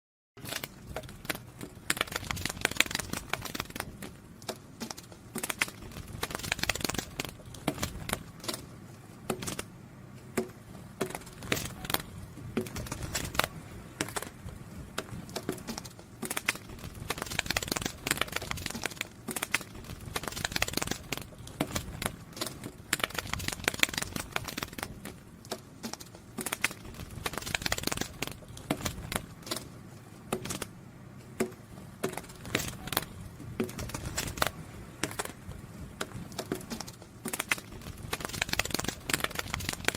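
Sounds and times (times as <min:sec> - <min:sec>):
butterfly wings fluttering: 0:00.4 - 0:04.0, 0:04.8 - 0:08.6, 0:11.2 - 0:25.1, 0:25.8 - 0:29.7, 0:32.2 - 0:39.9.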